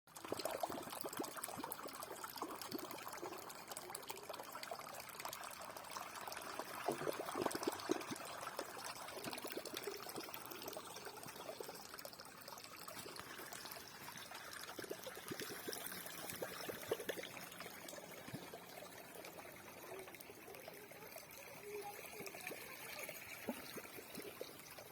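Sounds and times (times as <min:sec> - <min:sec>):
water trickling and splashing: 0:00.1 - 0:24.9.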